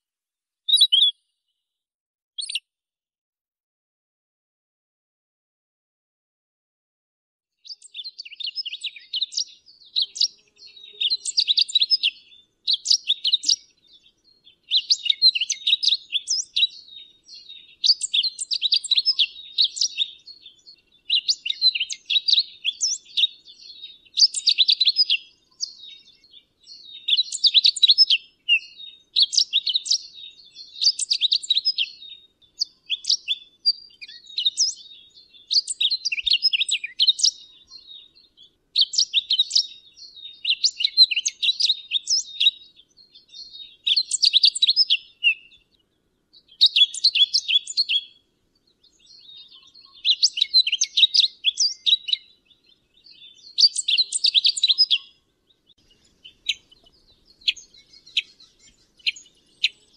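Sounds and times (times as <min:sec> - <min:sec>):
bird warbling song: 0:00.7 - 0:01.2, 0:02.4 - 0:02.6, 0:07.6 - 0:59.9.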